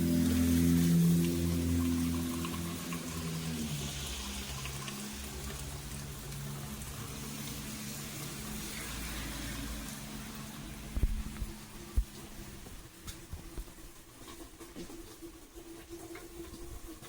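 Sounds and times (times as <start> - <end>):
low steady hum: 0.0 - 17.0
steady rain hiss: 0.0 - 17.0.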